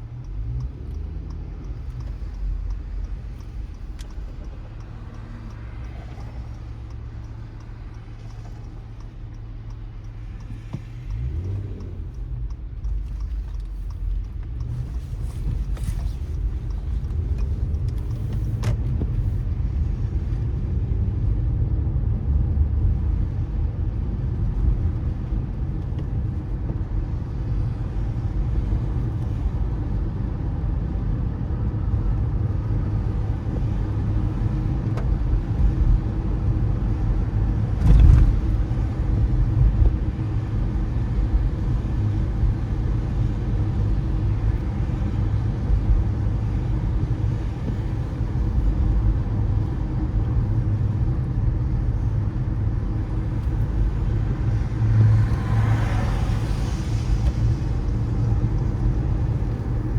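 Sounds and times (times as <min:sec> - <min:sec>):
car engine: 0:00.0 - 0:59.9.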